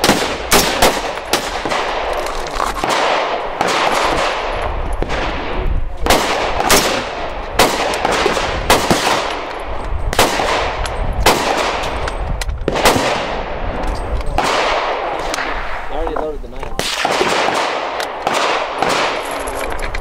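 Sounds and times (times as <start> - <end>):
rifle shots with echo: 0.0 - 16.2, 16.8 - 19.5.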